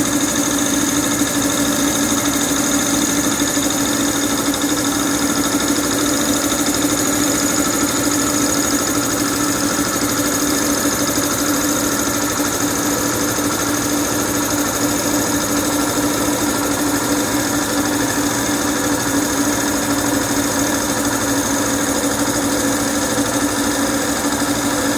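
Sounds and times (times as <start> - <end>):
piston compressor running: 0.0 - 24.9.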